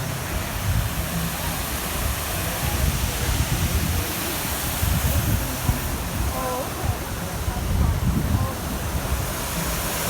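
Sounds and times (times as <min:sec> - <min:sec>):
running water rushing: 0:00.0 - 0:10.0
wind buffeting microphone: 0:00.0 - 0:10.0.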